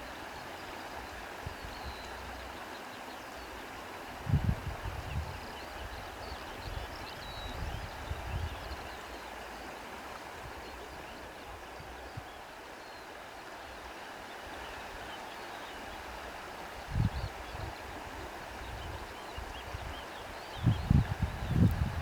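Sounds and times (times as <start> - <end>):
rush of flowing water: 0.0 - 22.0.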